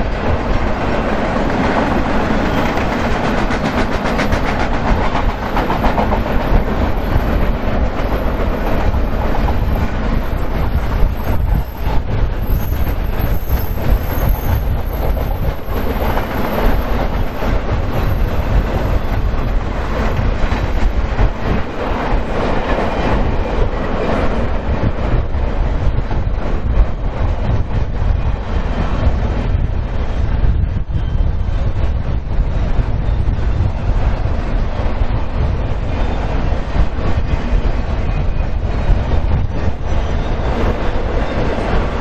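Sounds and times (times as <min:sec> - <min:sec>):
steel wheels rumbling on rail: 0:00.0 - 0:42.0.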